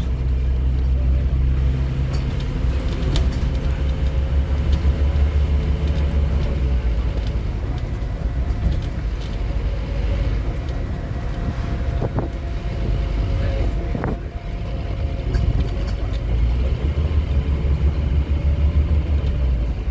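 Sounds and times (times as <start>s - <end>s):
bus diesel engine droning: 0.0s - 19.9s.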